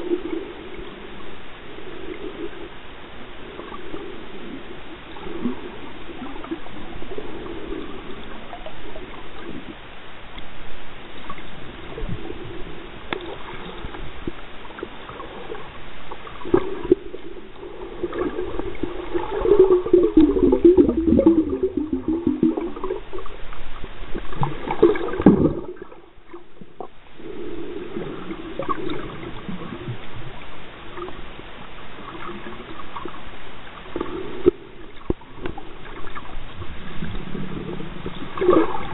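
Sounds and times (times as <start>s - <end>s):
underwater gurgling wash: 0.0s - 38.9s.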